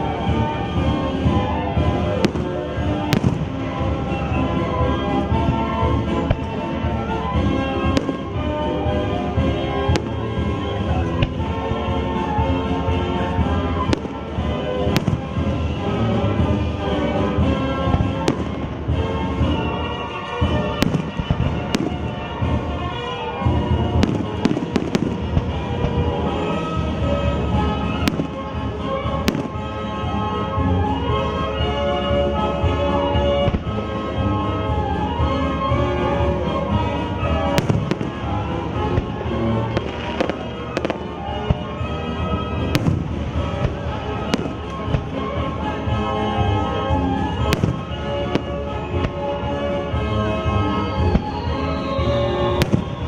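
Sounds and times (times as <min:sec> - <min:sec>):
fireworks booming and cracking: 0:00.0 - 0:53.0
music playing: 0:00.0 - 0:53.0.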